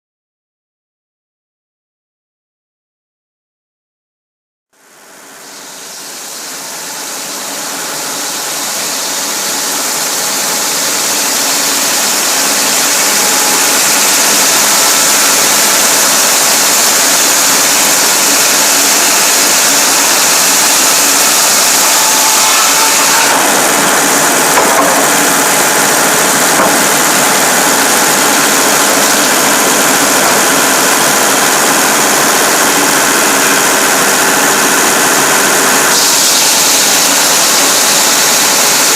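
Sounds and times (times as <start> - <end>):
diesel engine running: 5.5 - 22.5, 23.3 - 38.9.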